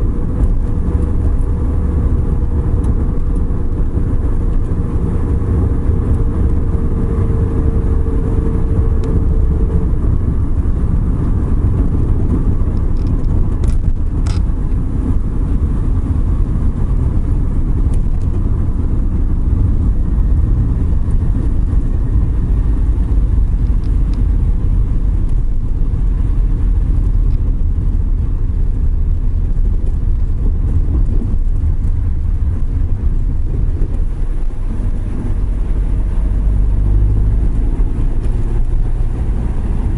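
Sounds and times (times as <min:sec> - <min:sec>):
van engine and tyre rumble: 0:00.0 - 0:39.9.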